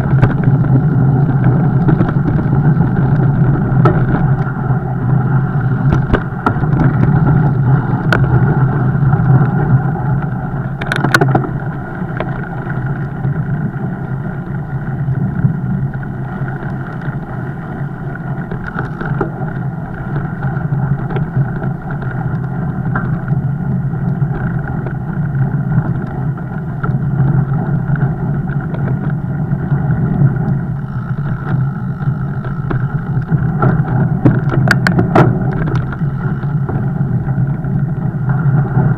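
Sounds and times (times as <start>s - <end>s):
bike rumbling: 0.0s - 38.9s.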